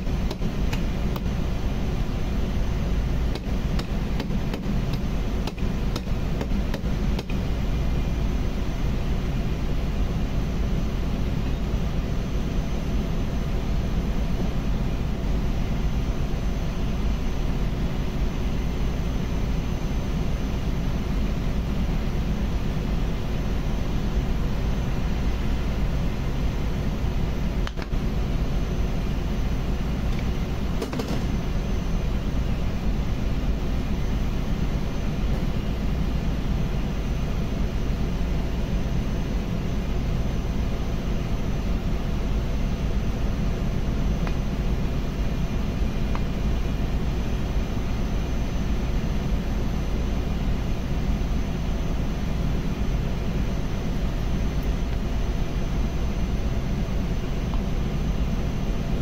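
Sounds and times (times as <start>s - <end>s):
engine-room machinery drone: 0.0s - 59.0s.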